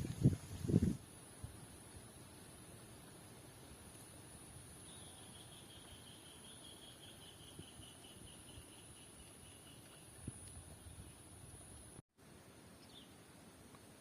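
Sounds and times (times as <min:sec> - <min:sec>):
insect chirp trill: 0:00.0 - 0:12.0.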